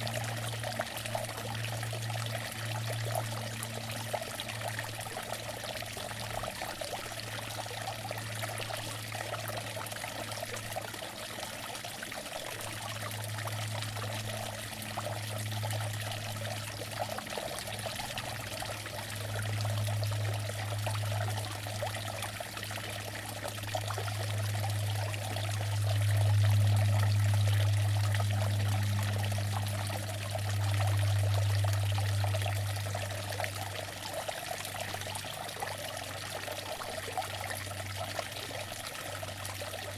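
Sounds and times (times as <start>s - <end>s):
low hum: 0.0s - 39.9s
water fountain splashing: 0.0s - 39.9s.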